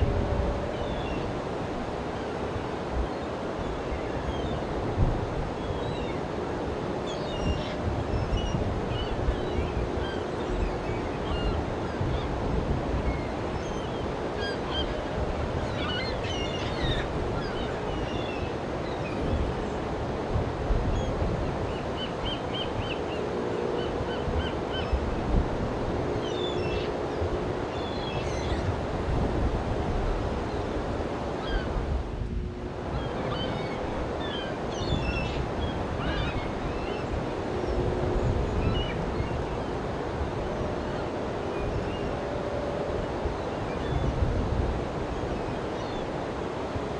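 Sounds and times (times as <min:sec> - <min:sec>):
ocean surf: 0:00.0 - 0:46.9
wind: 0:00.0 - 0:46.9.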